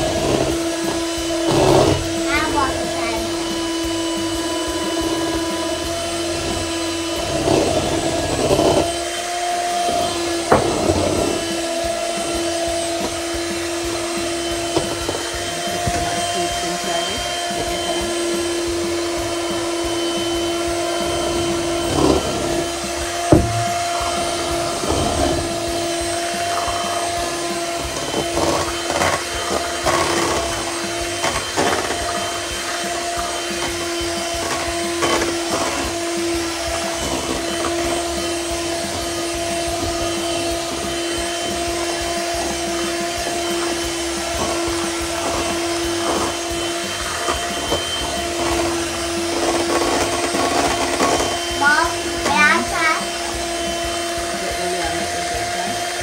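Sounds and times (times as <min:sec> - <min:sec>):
beaters knocking bowl: 0:00.0 - 0:56.0
electric hand mixer humming: 0:00.0 - 0:56.0.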